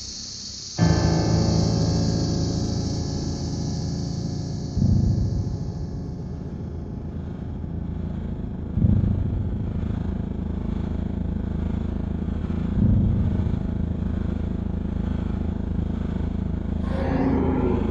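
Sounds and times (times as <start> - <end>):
droning ambient music: 0.0 - 17.9.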